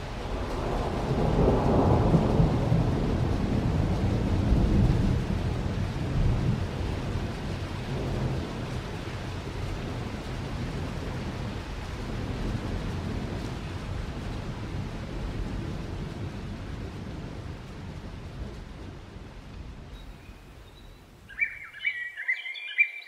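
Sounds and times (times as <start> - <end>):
rolling thunder: 0.0 - 21.8
steady rain: 0.0 - 23.0.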